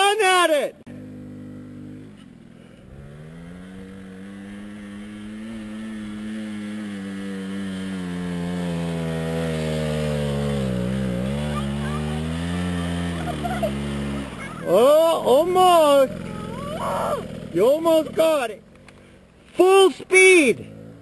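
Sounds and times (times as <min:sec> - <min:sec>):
two-stroke minibike engine revving: 0:00.9 - 0:21.0.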